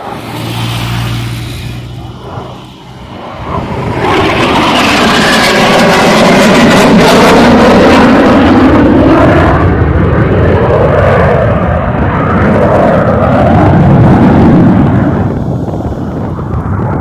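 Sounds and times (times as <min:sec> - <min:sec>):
jet flypast whoosh: 0:00.0 - 0:17.0.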